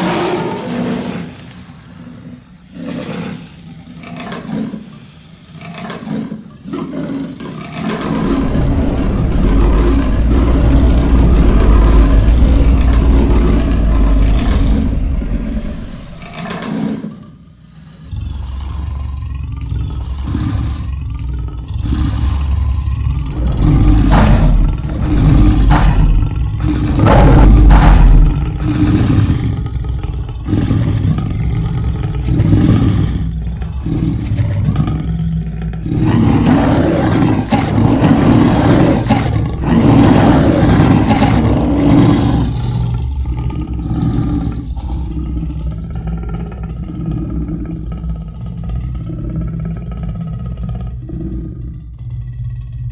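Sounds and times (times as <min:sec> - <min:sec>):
monster roaring: 0:00.0 - 0:01.4, 0:07.6 - 0:17.1, 0:18.1 - 0:51.8.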